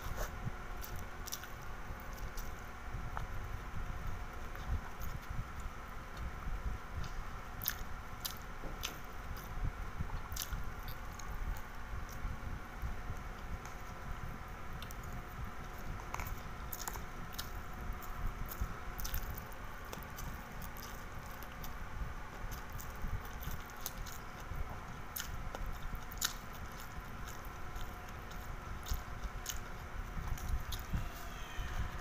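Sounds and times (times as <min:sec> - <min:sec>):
chewing and biting food: 0:00.0 - 0:06.3, 0:07.0 - 0:14.1, 0:14.7 - 0:32.0
steady low hum: 0:00.0 - 0:32.0.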